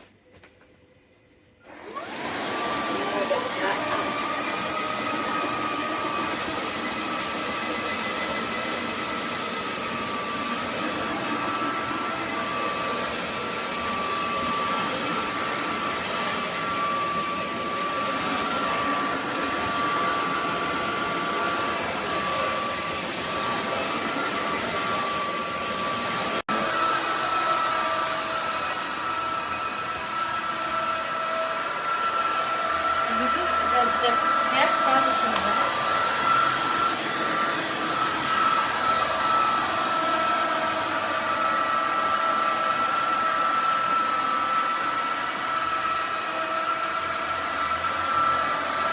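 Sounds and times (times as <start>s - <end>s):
vacuum motor whine: 0.0s - 48.9s.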